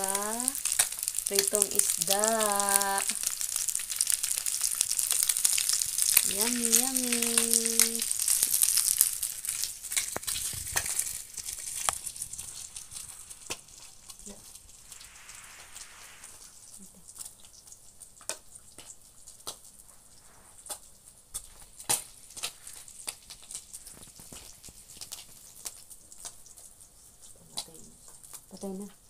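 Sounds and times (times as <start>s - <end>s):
fish sizzling in hot oil: 0.0s - 29.0s.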